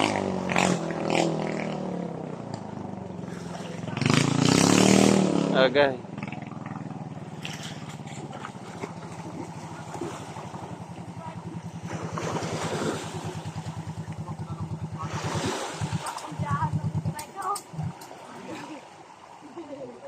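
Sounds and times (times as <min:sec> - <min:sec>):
boat engine chugging: 0:00.0 - 0:04.8, 0:05.5 - 0:20.0
rushing water: 0:00.0 - 0:20.0.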